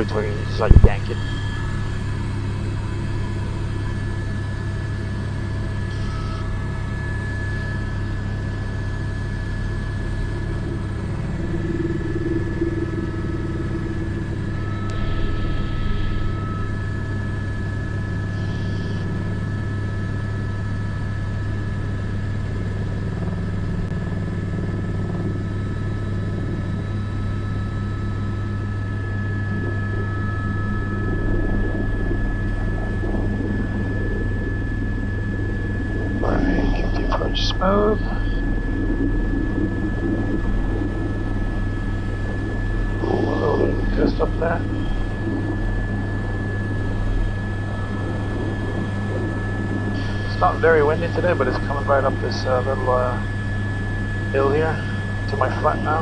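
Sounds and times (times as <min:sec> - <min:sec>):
high gearbox whine: 0:00.0 - 0:20.2, 0:27.2 - 0:56.0
helicopter rotor and turbine drone: 0:00.0 - 0:56.0.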